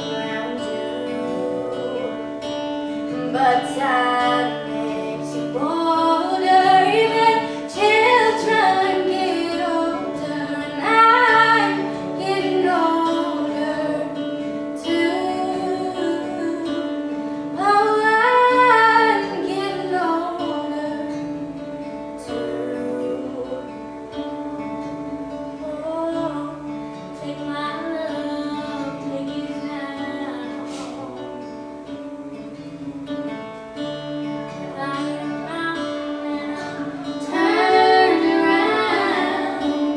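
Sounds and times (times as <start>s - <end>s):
woman singing: 0.0s - 31.6s, 34.5s - 39.9s
guitar accompaniment: 0.0s - 39.9s.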